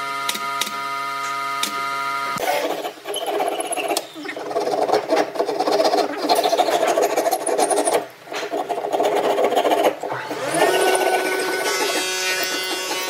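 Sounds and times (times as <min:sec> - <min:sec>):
steel scraper scraping wood: 0:02.4 - 0:13.0.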